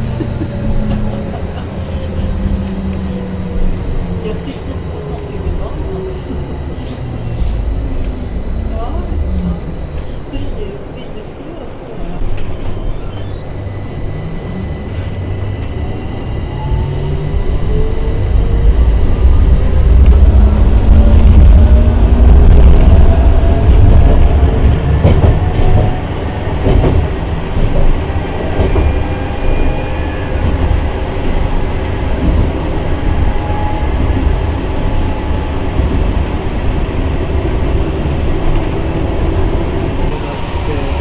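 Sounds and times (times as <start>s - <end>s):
traction motors whining: 0.0s - 41.0s
tram wheels rumbling on rails: 0.0s - 41.0s.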